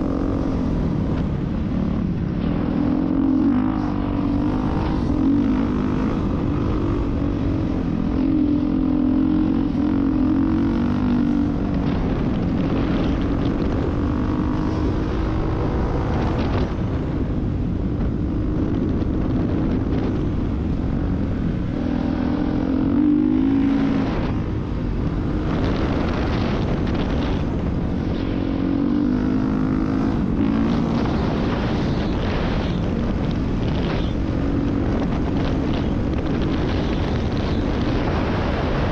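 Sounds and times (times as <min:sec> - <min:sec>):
off-road vehicle engine running: 0:00.0 - 0:38.9
wind on microphone: 0:00.0 - 0:38.9.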